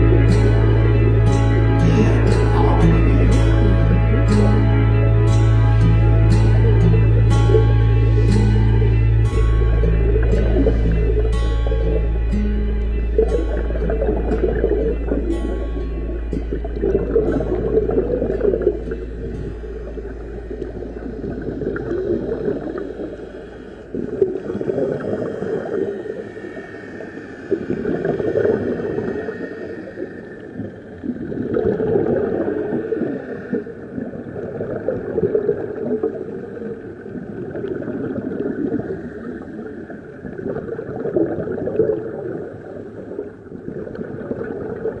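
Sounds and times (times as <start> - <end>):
underwater bubbling: 0.0 - 45.0.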